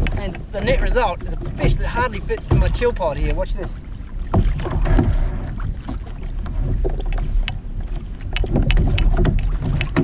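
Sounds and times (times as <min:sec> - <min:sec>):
knocks and rustles: 0:00.0 - 0:10.0.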